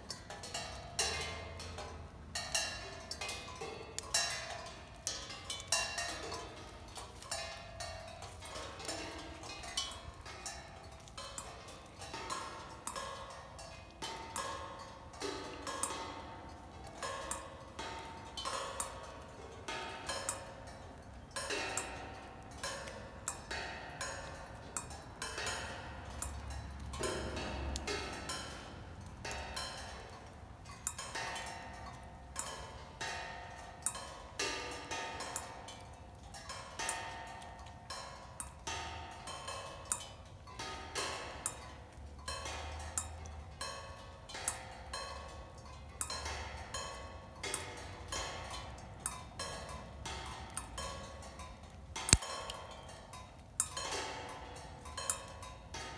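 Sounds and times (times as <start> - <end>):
raindrops pinging on cymbals: 0.0 - 55.9.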